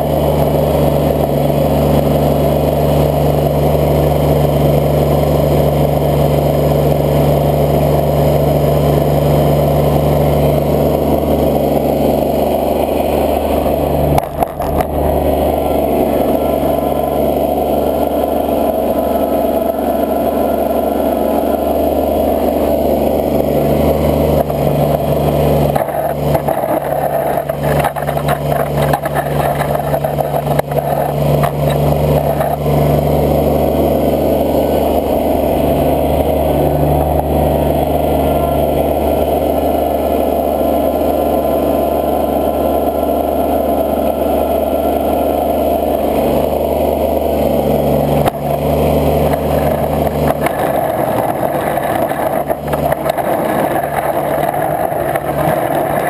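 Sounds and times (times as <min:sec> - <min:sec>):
snow plow engine running: 0:00.0 - 0:56.0.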